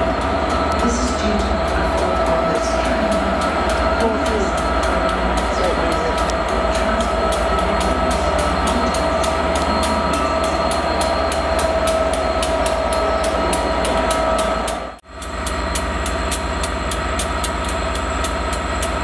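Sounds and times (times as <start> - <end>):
diesel locomotive engine: 0.0 - 19.0.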